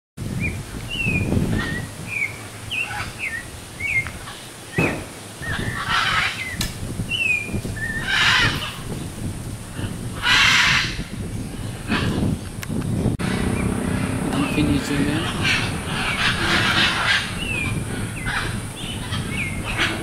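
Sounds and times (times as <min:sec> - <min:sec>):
parrots calling: 0:01.0 - 0:09.0, 0:09.7 - 0:12.4, 0:13.2 - 0:20.0.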